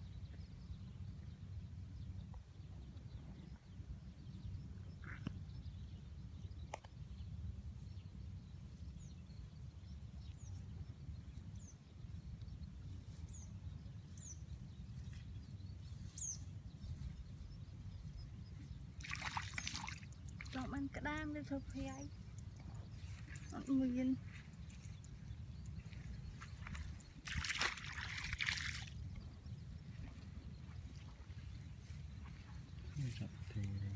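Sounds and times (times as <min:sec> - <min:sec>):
steady low rumble: 0:00.0 - 0:19.0, 0:20.0 - 0:33.9
small birds chirping: 0:00.1 - 0:33.9.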